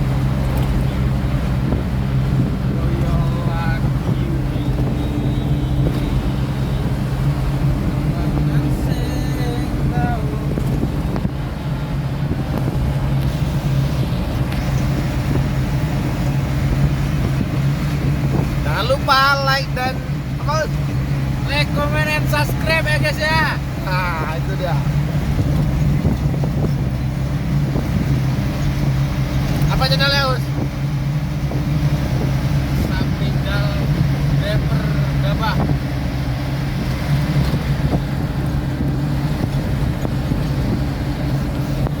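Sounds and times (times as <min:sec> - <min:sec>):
heavy vehicle engine drone: 0:00.0 - 0:42.0
road rumble: 0:00.0 - 0:42.0.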